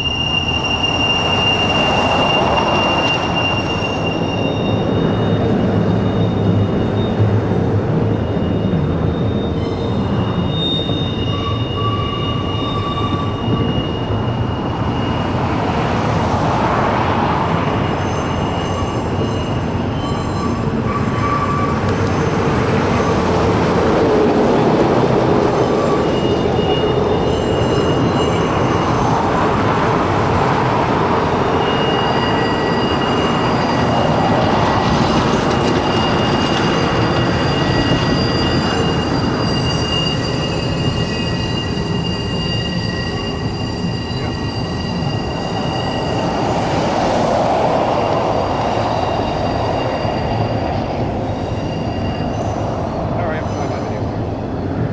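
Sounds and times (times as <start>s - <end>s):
high-pitched wheel squeals: 0.0s - 54.9s
train cars rumbling on rails: 0.0s - 54.9s.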